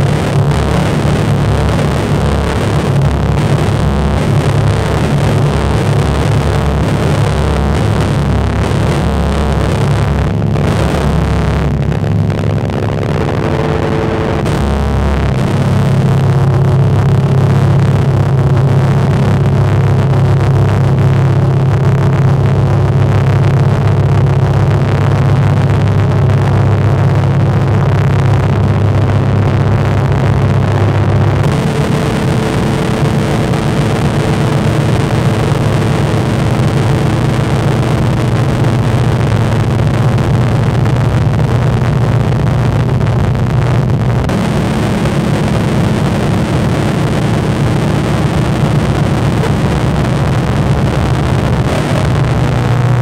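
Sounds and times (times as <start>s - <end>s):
dense droning soundtrack: 0.0s - 53.0s
engine-like low tones: 0.0s - 53.0s.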